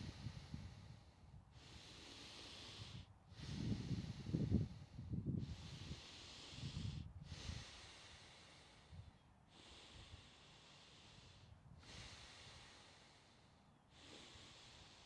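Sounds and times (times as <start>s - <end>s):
deep airy breathing: 0.0s - 15.0s.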